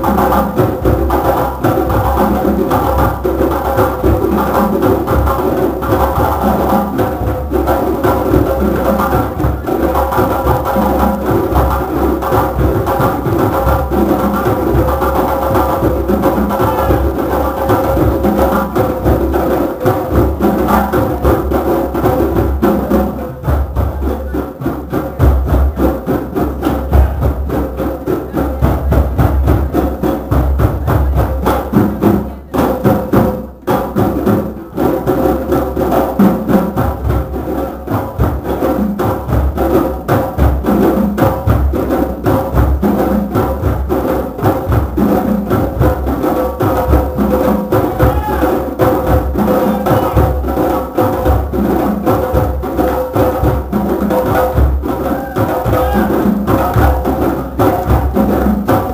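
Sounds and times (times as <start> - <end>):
hand drums and percussion playing: 0.0 - 58.9.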